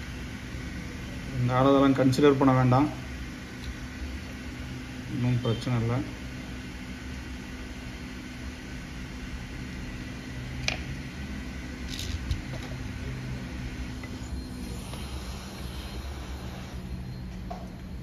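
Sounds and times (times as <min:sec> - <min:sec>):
small fan whirring: 0:00.0 - 0:18.0.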